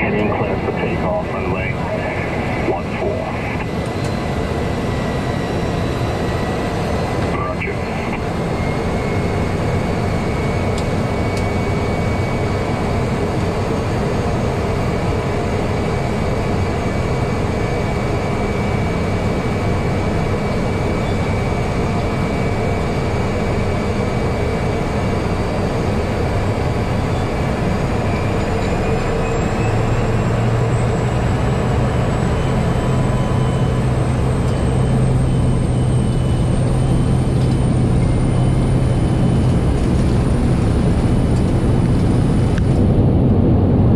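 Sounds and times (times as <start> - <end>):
turboprop engine drone: 0.0 - 43.9.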